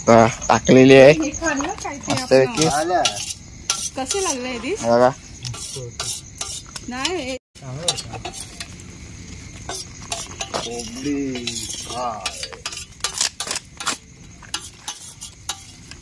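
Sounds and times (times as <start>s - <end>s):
metal utensils clinking and scraping: 1.6s - 4.8s, 5.4s - 8.8s, 9.7s - 16.0s.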